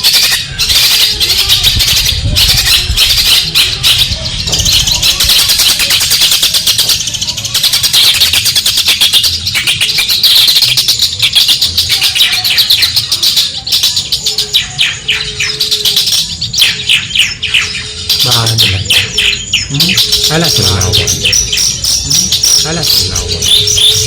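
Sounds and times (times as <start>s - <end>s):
bird singing rapid chatter: 0.0s - 24.0s.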